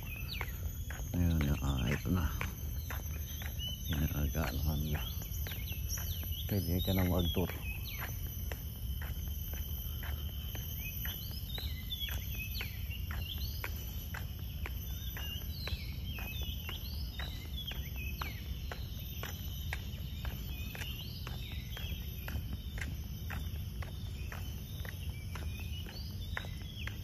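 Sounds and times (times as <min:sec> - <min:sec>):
birds chirping: 0:00.0 - 0:27.0
high-pitched insect drone: 0:00.0 - 0:27.0.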